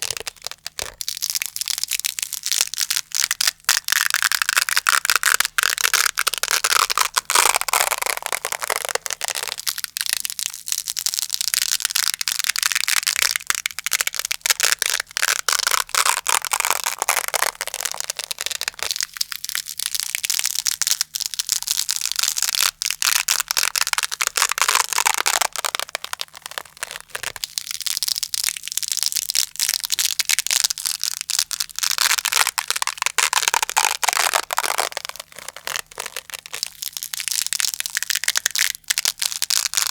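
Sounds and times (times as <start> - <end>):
velcro being pulled apart: 0.0 - 39.9.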